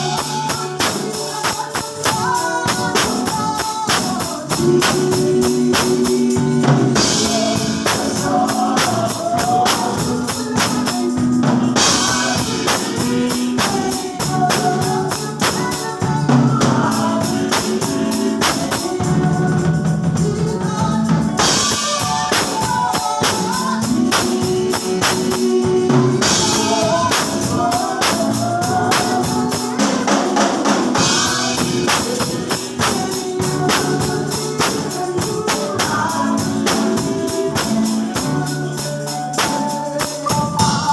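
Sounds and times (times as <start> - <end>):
drum kit beat: 0.0 - 40.9
singing: 0.0 - 40.9
tambourine: 0.0 - 40.9.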